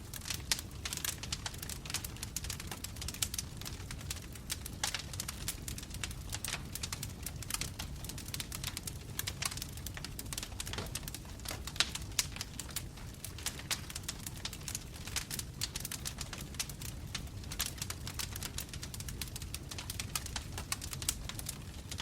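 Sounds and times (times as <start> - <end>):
low rumble of flame: 0.0 - 22.0
wood fire crackling and popping: 0.0 - 22.0.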